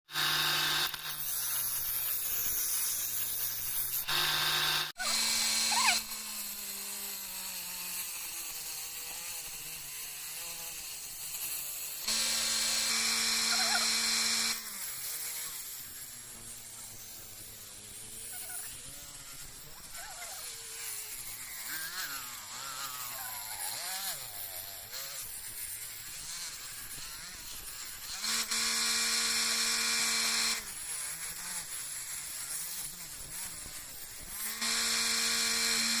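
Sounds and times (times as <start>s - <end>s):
power tool motor whining: 0.1s - 36.0s.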